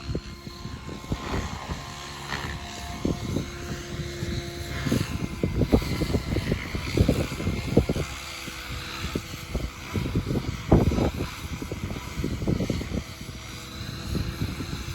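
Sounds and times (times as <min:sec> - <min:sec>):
model helicopter rotor and motor: 0:00.0 - 0:14.9
wind buffeting microphone: 0:00.0 - 0:14.9.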